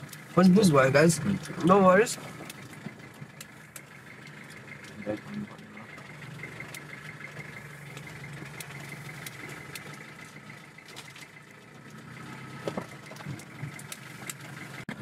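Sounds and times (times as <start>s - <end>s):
faint clicks and rattles: 0.0s - 15.0s
truck engine running: 0.0s - 15.0s.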